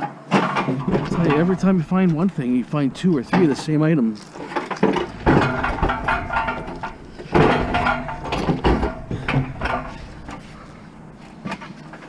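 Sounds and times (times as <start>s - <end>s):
heavy scrap knocking and rattling: 0.3s - 12.0s.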